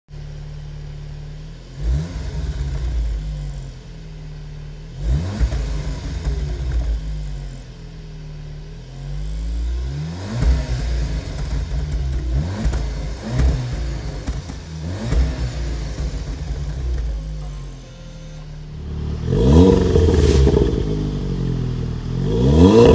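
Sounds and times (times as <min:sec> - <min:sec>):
car engine idling and revving: 0:00.1 - 0:22.9.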